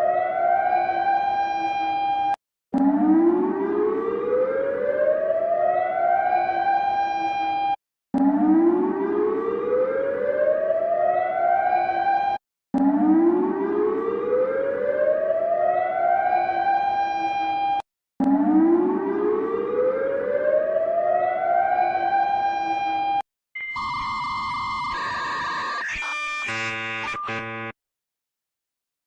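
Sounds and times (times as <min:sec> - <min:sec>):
siren-like alarm tone rising: 0:00.0 - 0:27.8.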